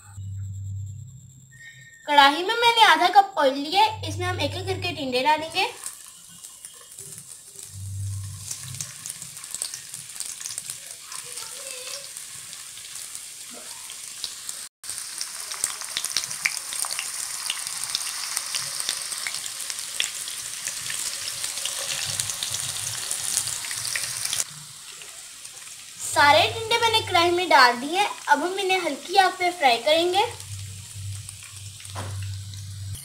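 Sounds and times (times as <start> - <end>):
vegetables sizzling in hot oil: 3.5 - 33.0.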